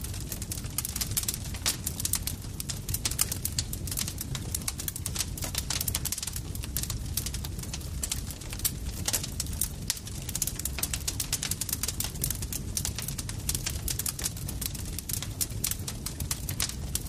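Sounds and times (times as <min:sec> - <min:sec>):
burning wood popping: 0:00.0 - 0:17.0
low rumble of flames: 0:00.0 - 0:17.0.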